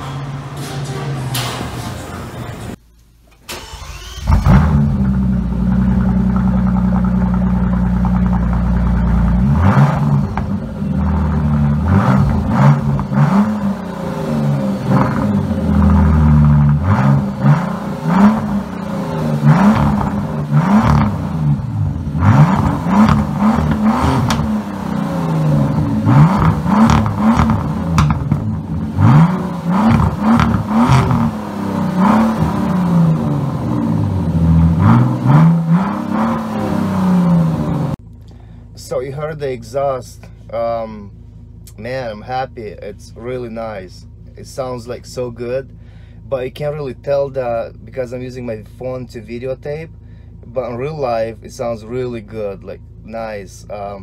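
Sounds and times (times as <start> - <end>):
car engine idling and revving: 3.5 - 54.0.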